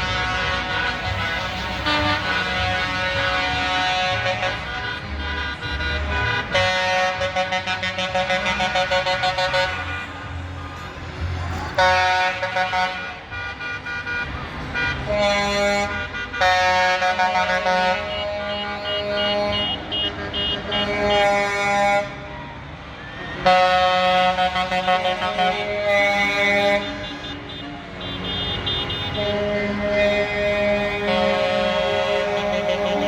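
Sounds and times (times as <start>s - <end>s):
truck air horn blasts: 0.0s - 10.4s, 11.7s - 22.3s, 23.4s - 33.0s
truck engines running: 0.0s - 33.0s.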